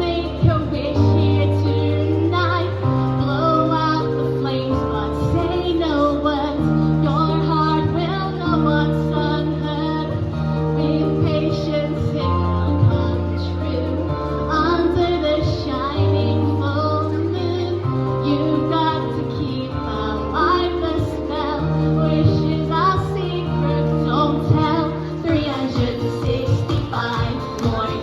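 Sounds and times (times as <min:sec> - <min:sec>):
backing track with bass notes: 0:00.0 - 0:28.0
woman singing slow pop song: 0:00.0 - 0:28.0.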